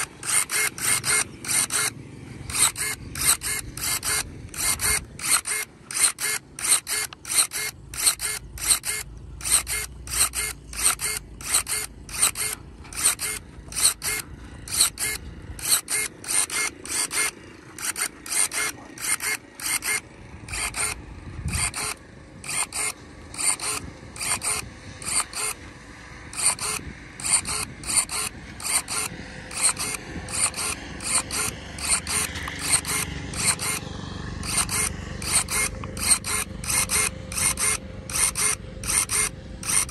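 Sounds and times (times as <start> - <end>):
electric pruning shears motor whirring: 0.0 - 39.9.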